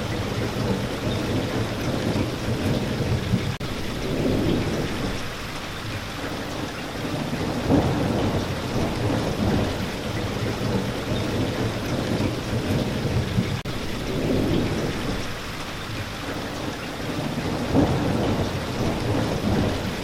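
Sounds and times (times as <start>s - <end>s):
heavy rain: 0.0s - 20.0s
low rolling thunder: 0.0s - 20.0s.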